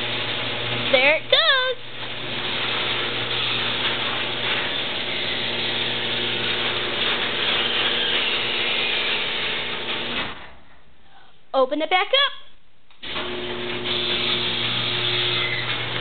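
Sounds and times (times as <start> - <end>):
garage door opener running: 0.0 - 10.8, 12.9 - 16.0.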